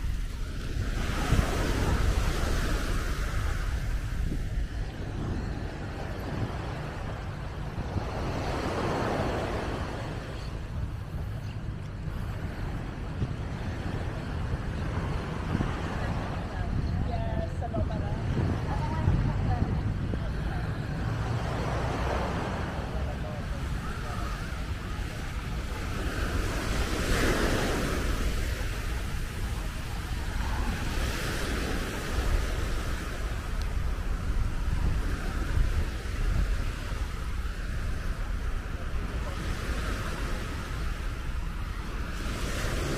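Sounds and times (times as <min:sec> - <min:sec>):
surf washing onto beach: 0:00.0 - 0:42.9
wind rumbling on microphone: 0:00.0 - 0:42.9.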